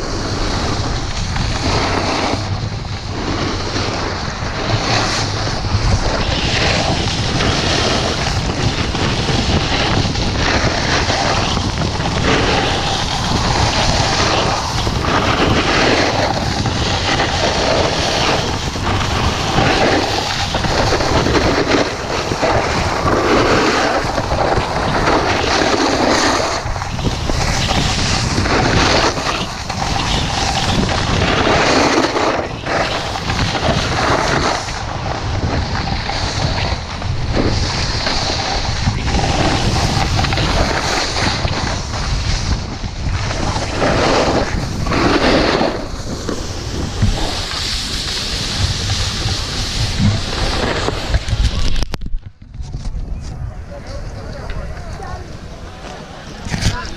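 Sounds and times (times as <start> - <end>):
snowboard scraping over snow: 0.0 - 56.9
wind on microphone: 0.0 - 56.9.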